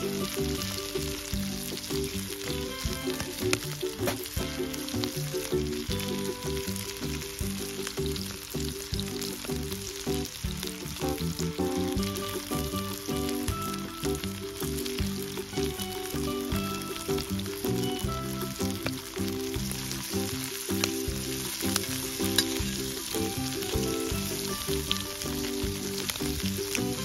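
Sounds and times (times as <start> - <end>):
background music: 0.0 - 27.0
meat sizzling on a griddle pan: 0.0 - 27.0.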